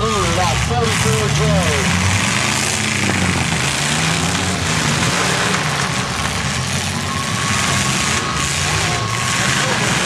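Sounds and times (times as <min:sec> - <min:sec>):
truck engines revving: 0:00.0 - 0:10.0.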